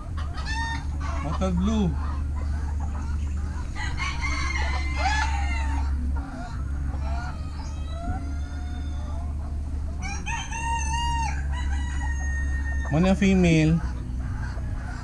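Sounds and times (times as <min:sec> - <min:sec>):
chickens clucking: 0:00.0 - 0:15.0
roosters crowing: 0:00.0 - 0:15.0.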